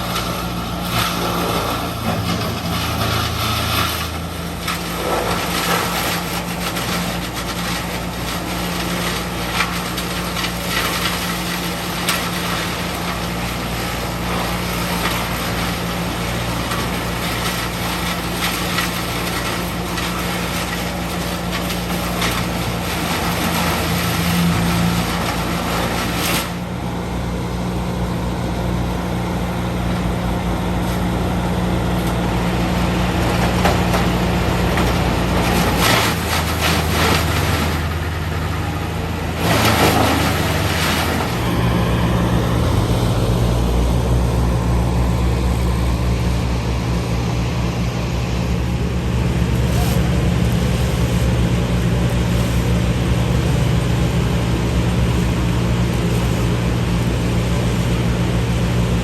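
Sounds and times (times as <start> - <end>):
diesel engine running: 0.0 - 59.0
loud rough noise: 0.0 - 59.0.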